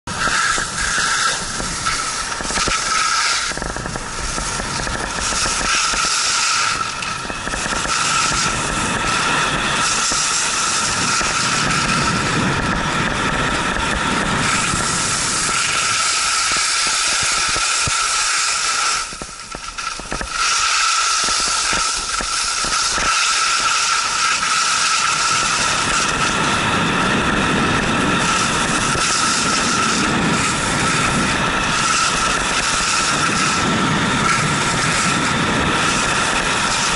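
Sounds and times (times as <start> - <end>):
ski edges scraping icy snow: 0.2 - 12.4, 14.0 - 36.9.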